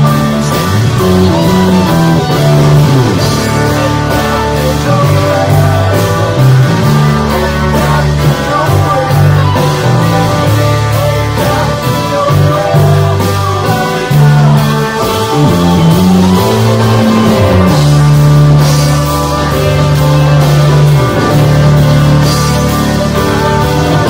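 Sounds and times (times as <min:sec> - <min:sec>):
guitar: 0:00.0 - 0:24.0
held bass notes: 0:00.0 - 0:24.0
steady drum beat: 0:00.0 - 0:24.0.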